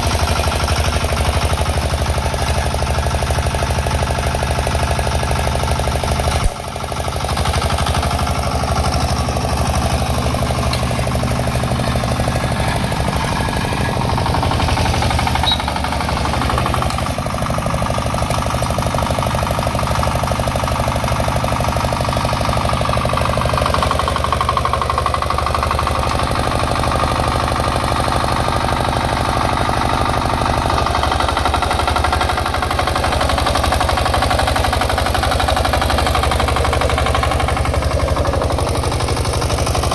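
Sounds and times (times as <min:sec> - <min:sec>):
diesel engine knocking steadily: 0:00.0 - 0:39.9.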